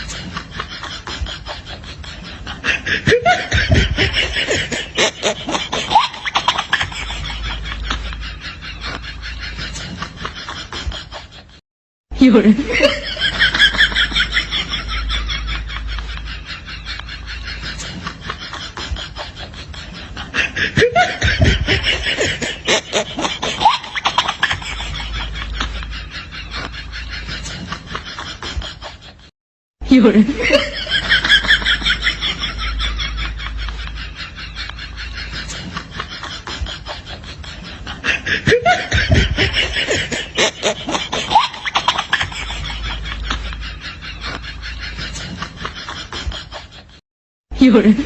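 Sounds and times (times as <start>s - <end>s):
laughter bursts: 0.0s - 11.6s, 12.2s - 47.0s.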